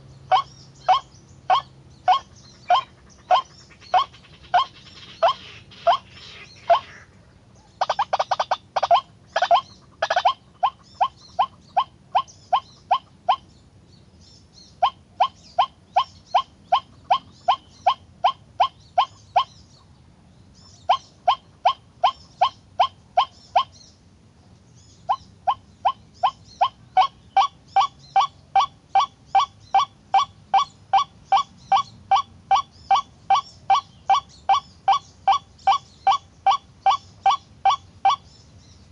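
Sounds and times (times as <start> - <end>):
waterhen harsh calls: 0.0 - 7.2, 7.8 - 13.5, 14.8 - 19.6, 20.9 - 23.8, 25.1 - 38.4.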